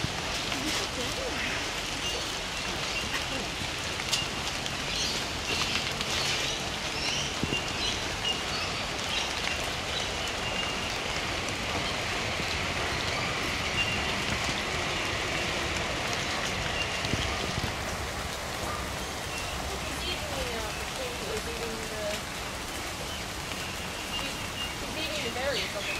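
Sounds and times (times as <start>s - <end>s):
rain pattering: 0.0s - 25.9s.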